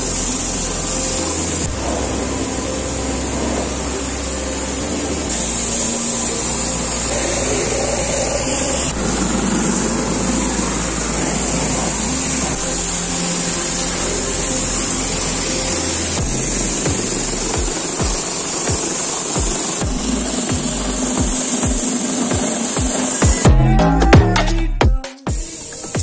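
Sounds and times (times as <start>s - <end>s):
pressure washer jet hissing: 0.0s - 23.5s.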